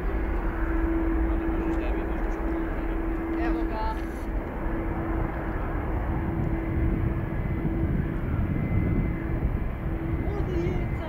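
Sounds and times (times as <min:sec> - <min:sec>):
jet engines rumbling at takeoff: 0:00.0 - 0:11.0.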